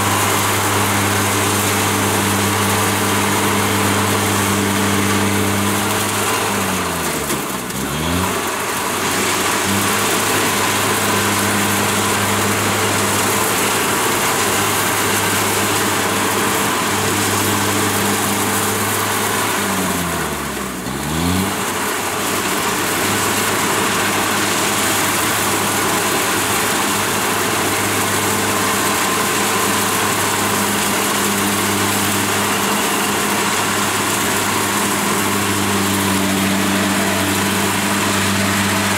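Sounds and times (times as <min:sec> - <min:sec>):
combine harvester engine droning: 0:00.0 - 0:38.9.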